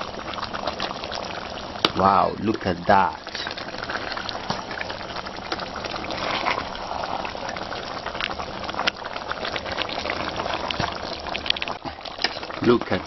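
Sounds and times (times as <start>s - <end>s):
soup bubbling with small pops: 0.0s - 13.0s.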